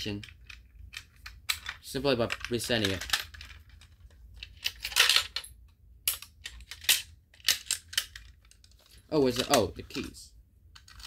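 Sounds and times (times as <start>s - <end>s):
plastic clicks and rattles: 0.1s - 5.5s, 6.1s - 10.1s, 10.7s - 11.0s.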